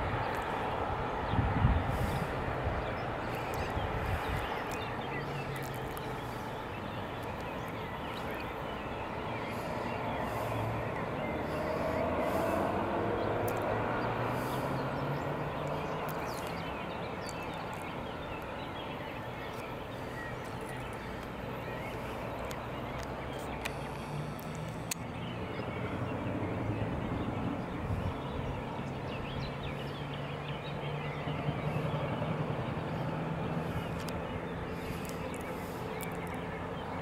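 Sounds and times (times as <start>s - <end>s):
low motor hum: 0.0s - 37.0s.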